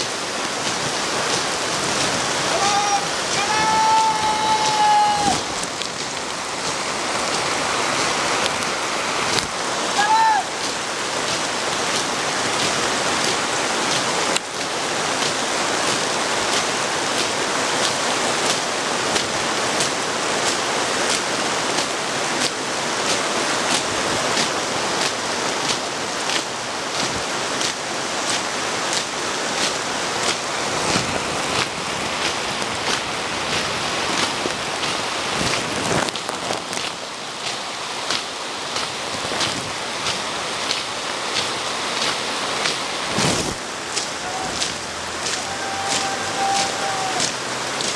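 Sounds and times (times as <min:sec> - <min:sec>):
heavy rain on pavement: 0:00.0 - 0:47.9.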